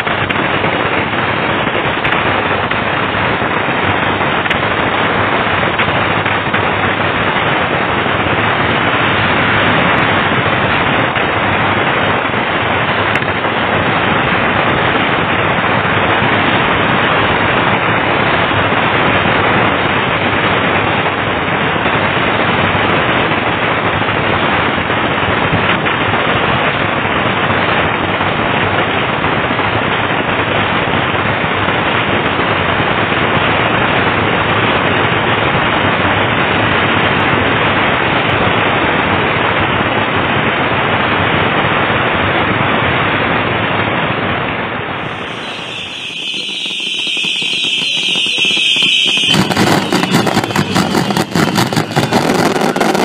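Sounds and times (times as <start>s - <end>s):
firecrackers crackling: 0.0s - 53.0s.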